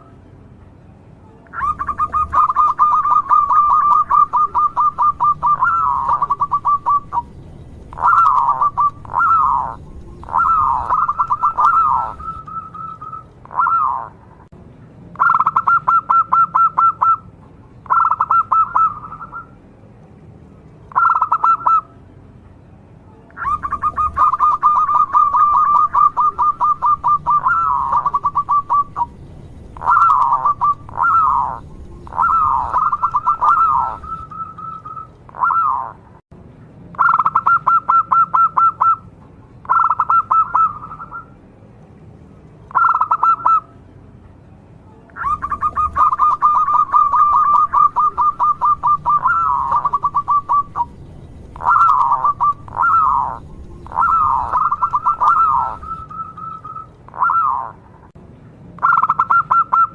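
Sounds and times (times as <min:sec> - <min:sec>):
dove purring trills: 0:01.5 - 0:14.2, 0:15.2 - 0:19.6, 0:20.9 - 0:21.9, 0:23.4 - 0:36.0, 0:37.0 - 0:39.0, 0:39.6 - 0:41.4, 0:42.7 - 0:43.7, 0:45.2 - 0:57.9, 0:58.8 - 0:59.9.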